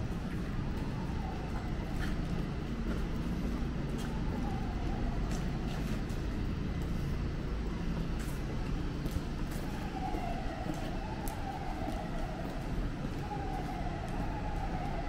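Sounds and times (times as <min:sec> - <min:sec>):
city traffic rumble: 0:00.0 - 0:15.0
footsteps on pavement: 0:00.0 - 0:15.0.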